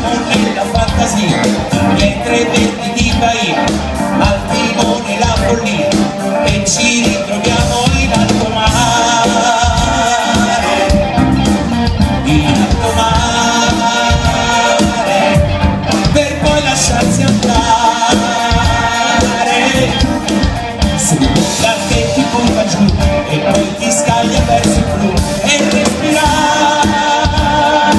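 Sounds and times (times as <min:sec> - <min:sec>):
live band playing pop-rock: 0:00.0 - 0:27.9.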